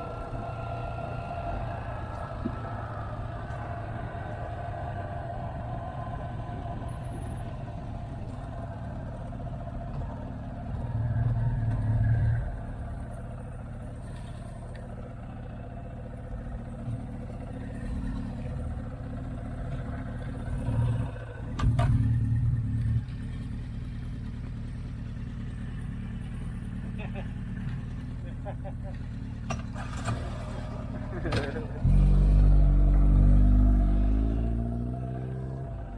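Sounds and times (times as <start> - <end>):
motorcycle engine rumble: 0.0 - 35.9.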